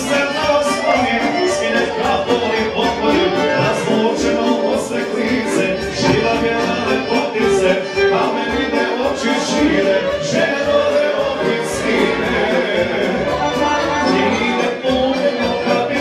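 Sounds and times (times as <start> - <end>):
live music: 0.0 - 16.0
person singing into microphone: 0.0 - 16.0.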